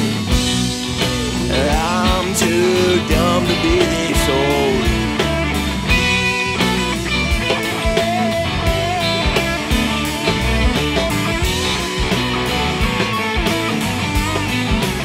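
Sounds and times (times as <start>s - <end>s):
drum kit beat: 0.0s - 15.0s
electric guitar with bending notes: 0.0s - 15.0s.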